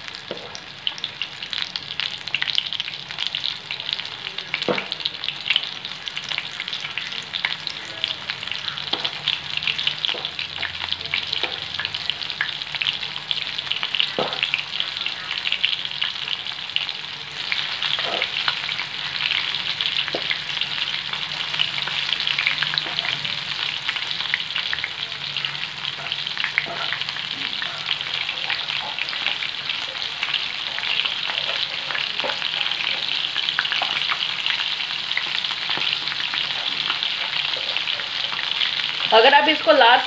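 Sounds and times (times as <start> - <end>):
prawns sizzling in hot oil: 0.0 - 40.0.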